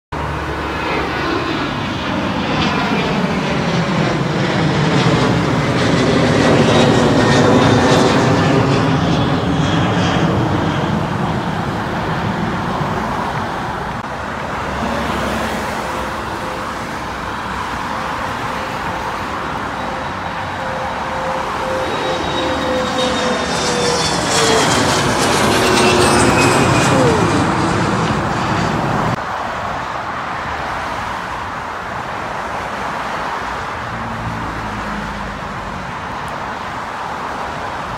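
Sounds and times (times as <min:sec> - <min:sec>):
airliners flying overhead: 0:00.1 - 0:37.9
car road noise: 0:00.1 - 0:37.9.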